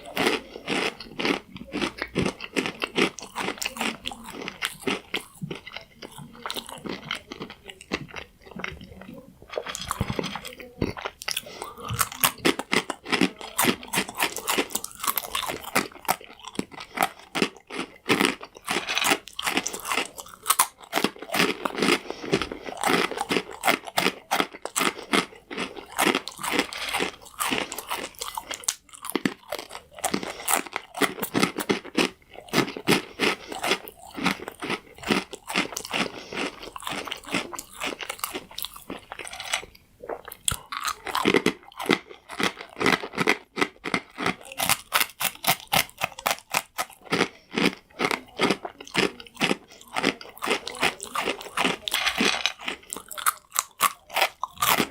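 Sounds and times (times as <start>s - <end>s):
chewing crunchy croutons: 0.0s - 54.9s.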